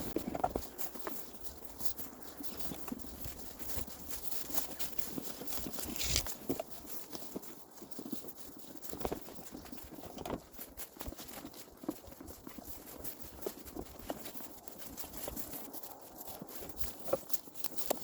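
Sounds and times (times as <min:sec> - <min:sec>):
footsteps on rough ground: 0:00.0 - 0:18.0
rustling: 0:00.0 - 0:18.0.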